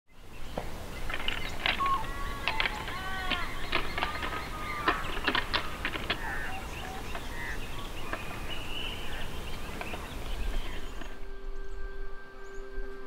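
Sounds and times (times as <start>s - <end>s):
birds chirping and whistling: 0.2s - 13.0s.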